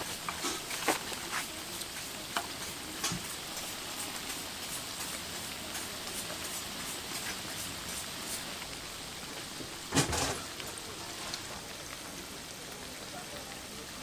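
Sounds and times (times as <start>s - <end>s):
hot oil sizzling: 0.0s - 14.0s.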